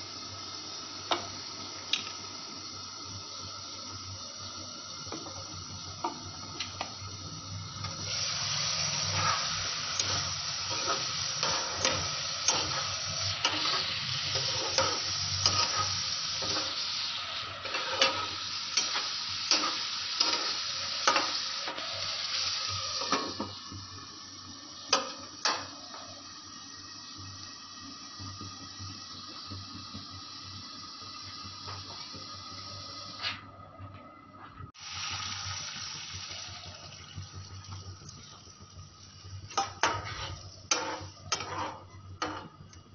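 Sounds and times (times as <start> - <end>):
potatoes sizzling in oil: 0.0 - 33.2, 34.8 - 42.9.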